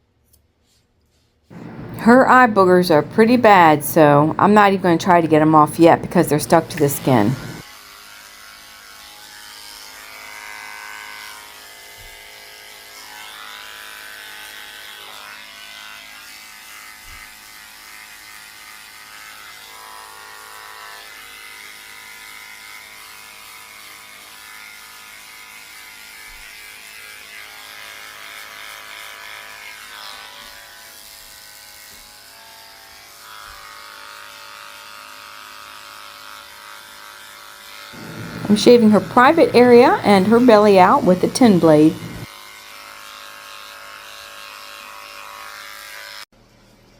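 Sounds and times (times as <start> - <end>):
electric clippers humming: 1.5 - 46.2.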